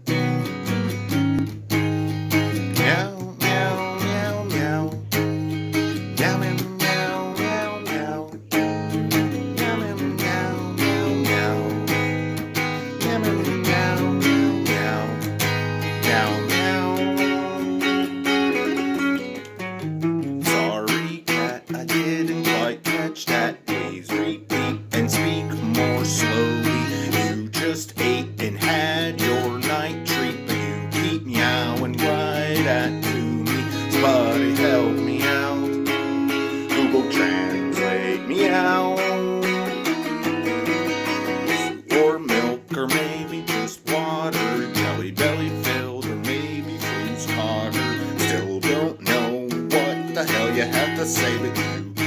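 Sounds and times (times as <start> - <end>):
acoustic guitar plucked and strummed: 0.0 - 52.0.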